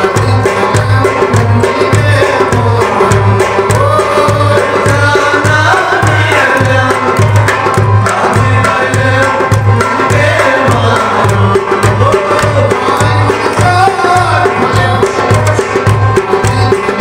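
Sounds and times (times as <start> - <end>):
drum beat: 0.0 - 17.0
harmonium: 0.0 - 17.0
man singing: 0.0 - 17.0.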